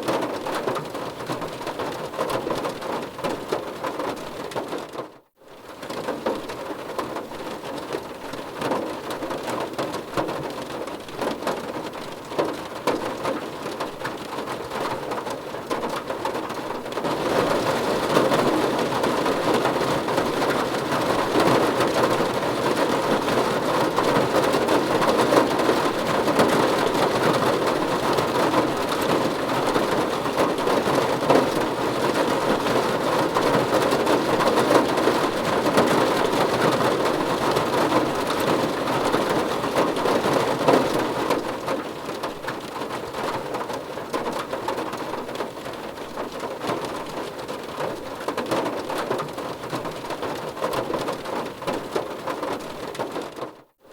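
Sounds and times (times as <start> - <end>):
heavy rain on car roof: 0.0 - 53.9.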